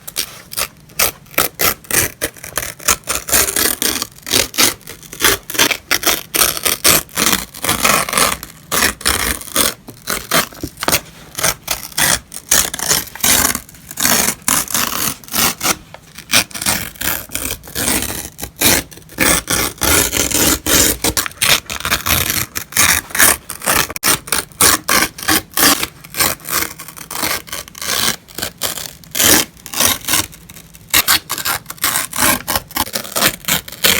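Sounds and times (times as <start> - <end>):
paper being torn by hand: 0.0 - 33.9.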